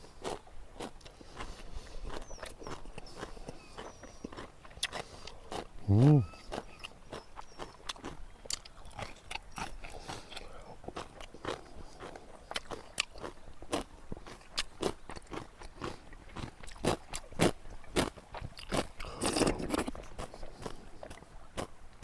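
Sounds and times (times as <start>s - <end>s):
crisp crunching while chewing: 0.0s - 21.7s.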